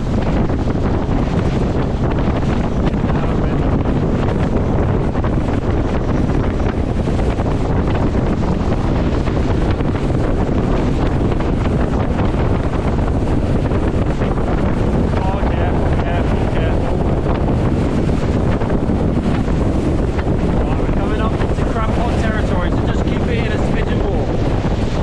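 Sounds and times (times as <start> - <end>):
water rushing beneath hull: 0.0 - 25.0
wind buffeting microphone: 0.0 - 25.0.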